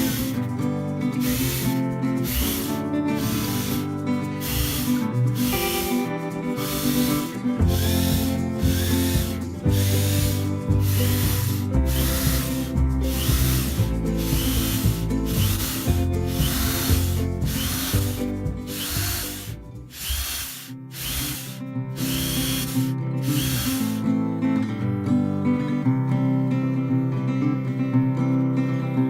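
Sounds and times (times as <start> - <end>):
hand tool rubbing on wood: 0.0 - 0.4, 1.2 - 24.0
acoustic guitar music: 0.0 - 29.0.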